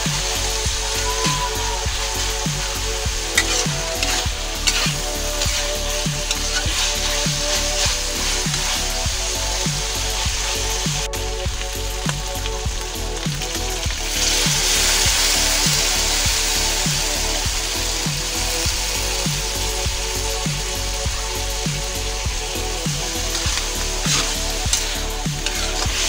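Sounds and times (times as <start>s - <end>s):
background music with beat: 0.0s - 26.0s
meat sizzling in a wok: 0.0s - 26.0s.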